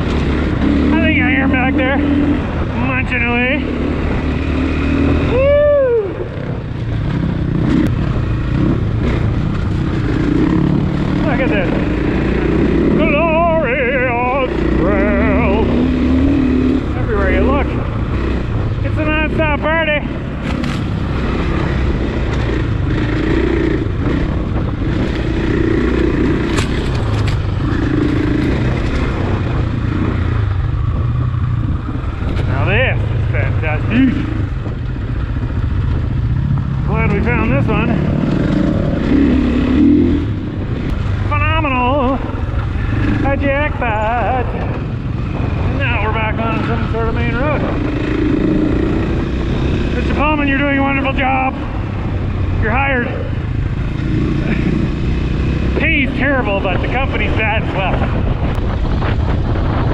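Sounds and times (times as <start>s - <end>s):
motorcycle engine running: 0.0s - 59.9s
rough trail noise: 0.0s - 59.9s.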